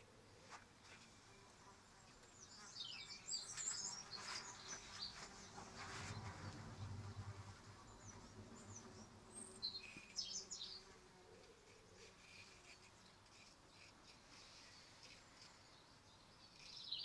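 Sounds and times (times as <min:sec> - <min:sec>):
flies buzzing: 0:00.4 - 0:16.9.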